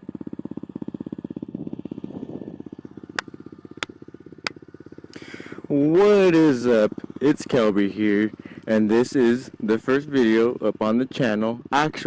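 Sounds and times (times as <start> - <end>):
motorbike engine idling: 0.0 - 12.0.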